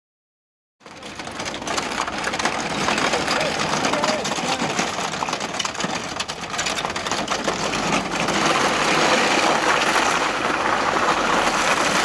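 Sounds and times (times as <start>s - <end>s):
plastic casing scraping on asphalt: 0.8s - 12.0s.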